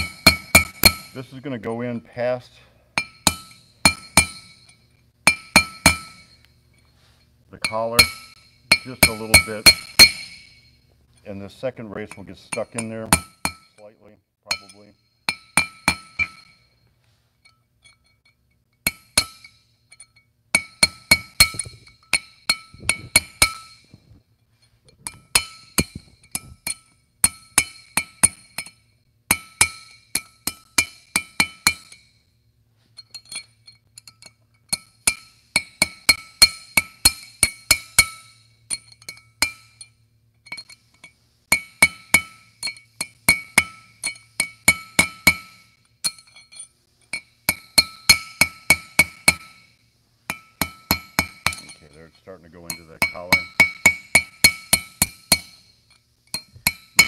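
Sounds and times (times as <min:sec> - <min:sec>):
hammer tapping metal drift: 0:00.0 - 0:02.0, 0:02.9 - 0:57.0.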